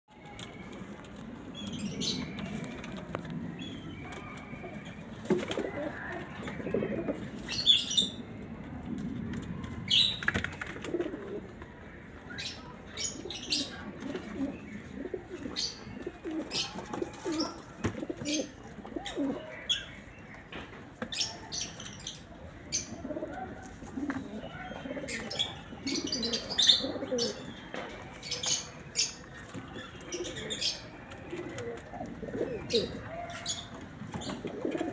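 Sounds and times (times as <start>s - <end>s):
pigeons cooing: 1.7s - 8.2s, 9.9s - 11.8s, 13.0s - 19.9s, 21.2s - 34.9s.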